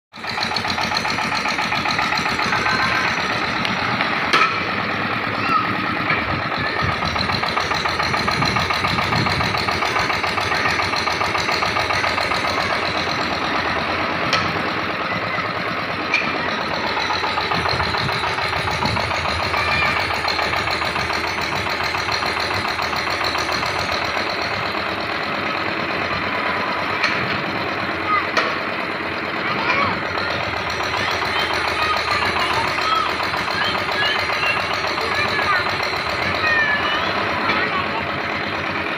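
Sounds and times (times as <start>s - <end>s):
drilling rig engine pulsing: 0.1s - 38.9s.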